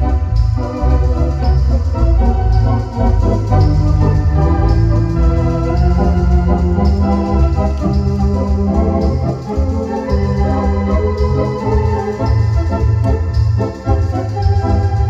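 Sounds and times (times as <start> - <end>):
electronic organ playing a tune: 0.0 - 15.0.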